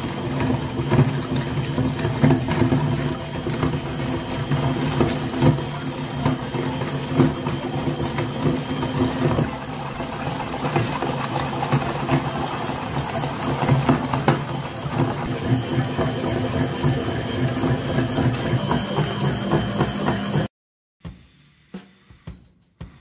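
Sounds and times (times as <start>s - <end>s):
meat grinder motor humming: 0.0s - 20.5s.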